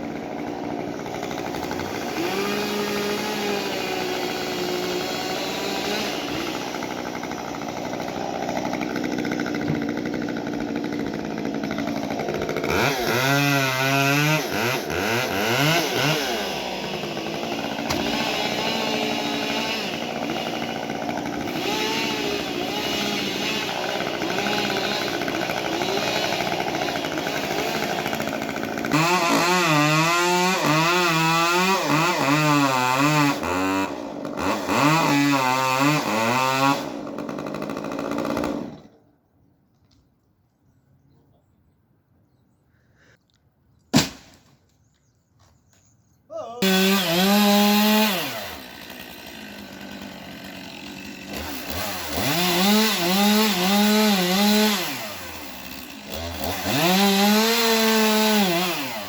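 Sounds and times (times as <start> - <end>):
chainsaw engine revving: 0.0 - 39.0, 46.6 - 59.0.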